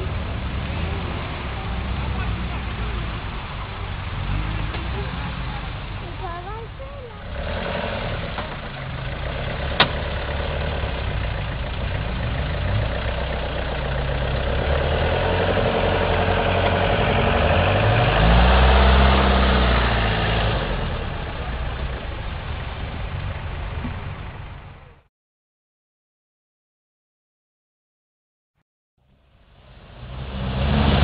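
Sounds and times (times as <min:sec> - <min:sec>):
off-road vehicle engine revving: 0:00.0 - 0:25.1, 0:29.6 - 0:31.0.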